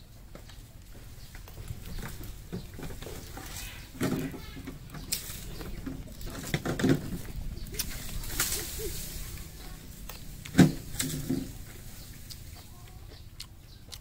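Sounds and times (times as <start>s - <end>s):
birds calling: 0.0s - 14.0s
chewing: 0.3s - 14.0s.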